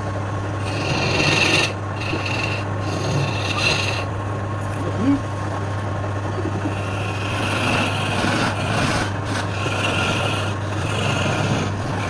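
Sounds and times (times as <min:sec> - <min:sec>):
lathe motor hum: 0:00.0 - 0:12.0
tool scraping spinning wood: 0:00.0 - 0:12.0.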